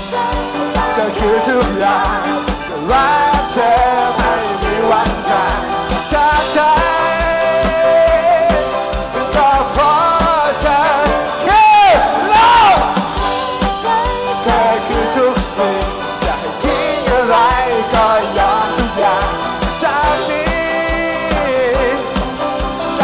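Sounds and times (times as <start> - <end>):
fast kick drum beat: 0.0 - 23.0
live rock band with singer: 0.0 - 23.0.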